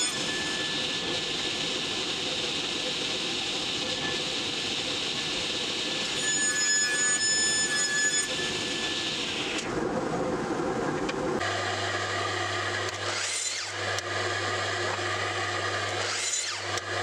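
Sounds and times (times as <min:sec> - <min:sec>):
table saw blade whining: 0:00.0 - 0:09.7, 0:11.4 - 0:17.0
table saw cutting wood: 0:00.0 - 0:09.7, 0:11.4 - 0:17.0.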